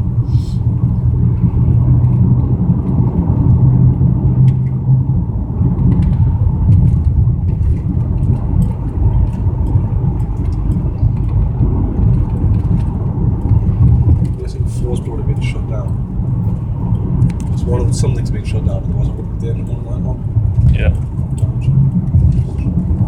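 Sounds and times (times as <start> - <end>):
car engine running rough: 0.0 - 23.0.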